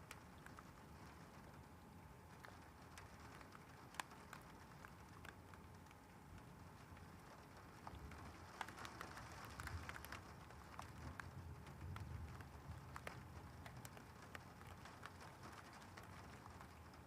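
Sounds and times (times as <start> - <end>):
faint rain: 0.0 - 17.0.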